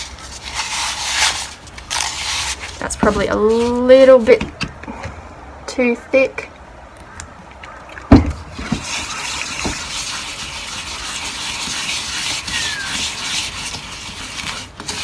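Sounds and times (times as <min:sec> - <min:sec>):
wet concrete scraping: 0:00.0 - 0:04.5, 0:06.9 - 0:15.0.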